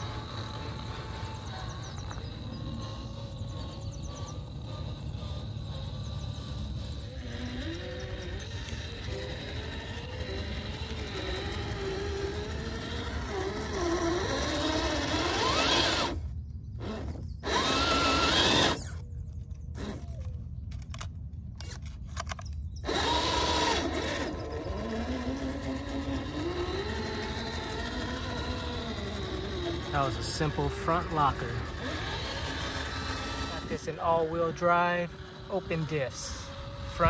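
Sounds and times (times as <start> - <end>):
toy car motor whining: 0.0 - 37.0.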